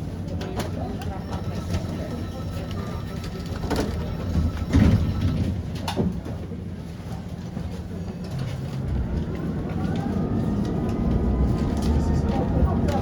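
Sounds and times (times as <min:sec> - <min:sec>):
tram low rumble: 0:00.0 - 0:13.0.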